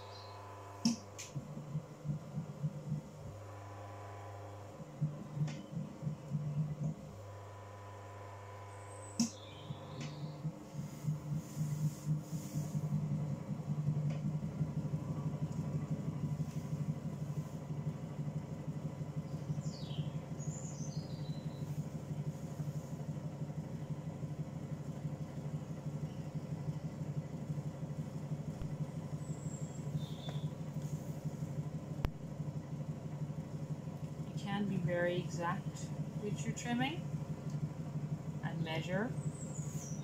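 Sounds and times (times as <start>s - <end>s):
potter's wheel motor hum: 0.0s - 40.0s.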